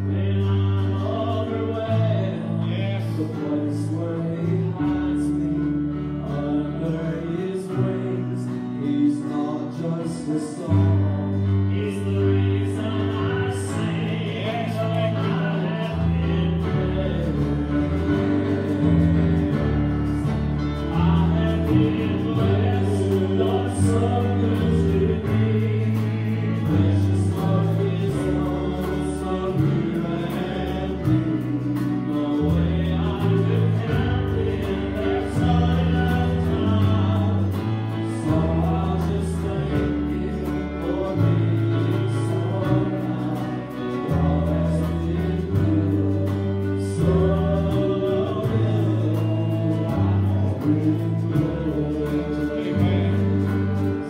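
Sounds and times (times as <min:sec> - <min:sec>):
bass notes: 0:00.0 - 0:54.0
church band playing gospel: 0:00.0 - 0:54.0
voices singing: 0:00.0 - 0:54.0.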